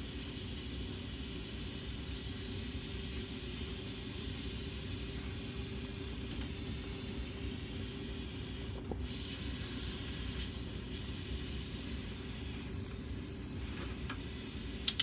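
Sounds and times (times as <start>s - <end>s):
torch burning with hiss: 0.0s - 15.0s.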